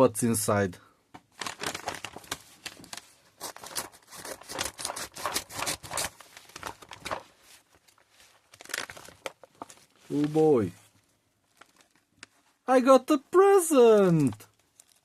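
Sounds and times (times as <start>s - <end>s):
packaging rustling and tearing: 1.3s - 12.4s, 14.1s - 15.0s.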